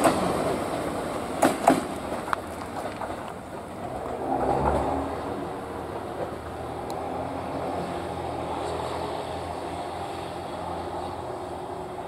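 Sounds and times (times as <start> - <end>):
railcar engine humming: 0.0 - 12.0.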